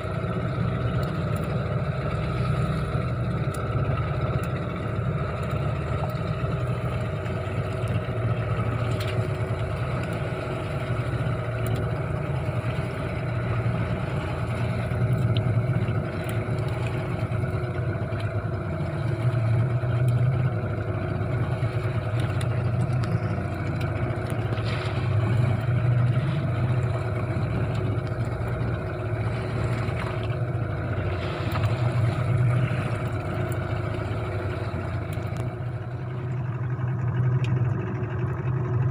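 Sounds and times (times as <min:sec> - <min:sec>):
small boat motor running: 0:00.0 - 0:38.9.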